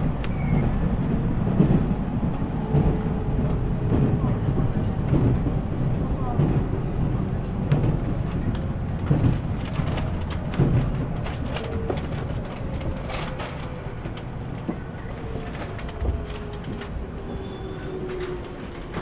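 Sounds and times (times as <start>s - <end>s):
train wheel rumble: 0.0s - 19.0s.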